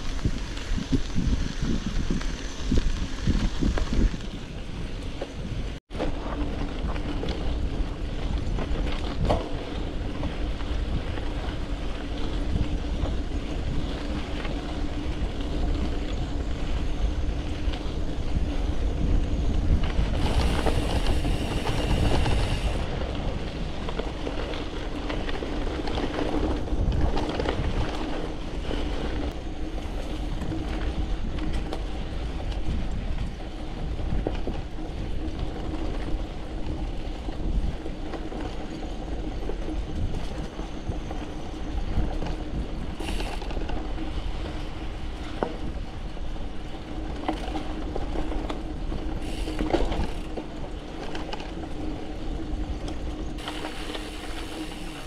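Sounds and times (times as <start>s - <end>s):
bike tyres crunching on gravel: 0.0s - 55.0s
wind on microphone: 0.0s - 55.0s.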